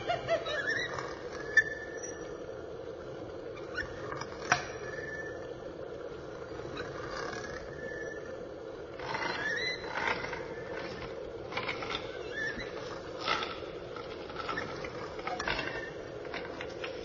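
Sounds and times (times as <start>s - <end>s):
squeaky creaks: 0.4s - 2.4s, 3.5s - 5.6s, 6.4s - 17.0s.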